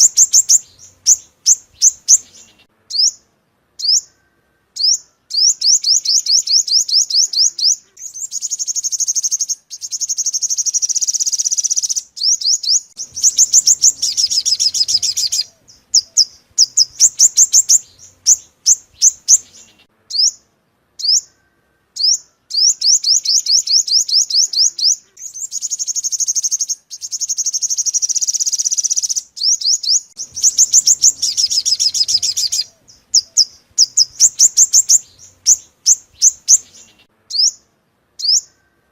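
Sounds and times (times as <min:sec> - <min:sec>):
bird chirps and buzzy trills: 0:00.0 - 0:38.9.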